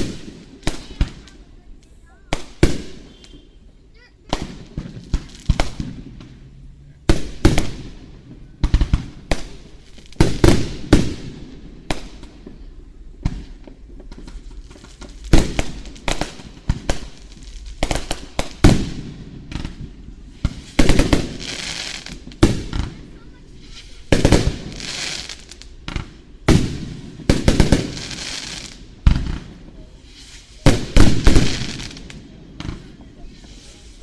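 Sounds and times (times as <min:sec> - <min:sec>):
fireworks bursting with booms: 0:00.0 - 0:34.0.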